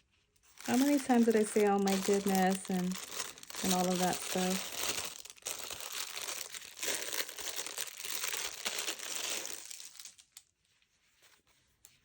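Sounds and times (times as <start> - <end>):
paper crinkling and rustling: 0.4 - 12.0.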